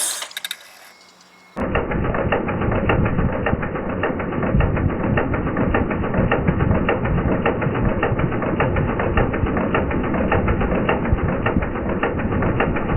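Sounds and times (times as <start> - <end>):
engine running: 0.0 - 12.9.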